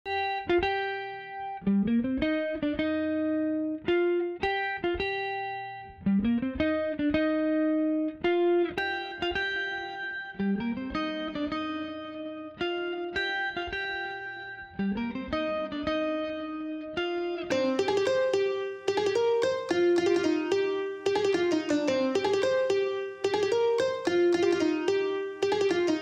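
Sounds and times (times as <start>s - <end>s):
plucked-string melody: 0.1s - 5.5s, 6.1s - 26.0s.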